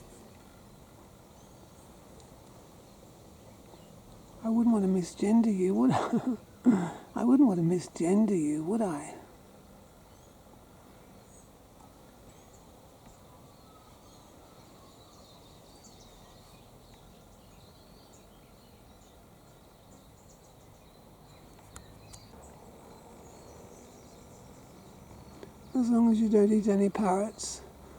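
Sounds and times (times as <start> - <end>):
background hiss: 0.0 - 27.9
insect-like hum: 0.0 - 27.9
distant bird chirps: 2.8 - 27.9.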